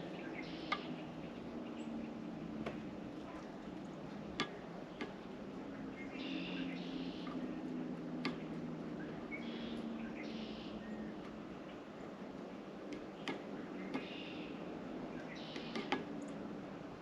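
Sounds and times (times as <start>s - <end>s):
songbirds calling: 0.0s - 17.0s
steady low hum: 0.0s - 17.0s.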